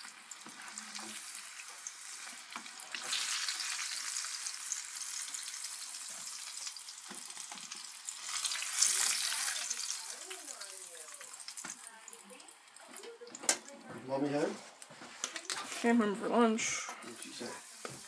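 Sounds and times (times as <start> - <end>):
hot oil sizzling: 0.0 - 16.0, 16.9 - 18.0.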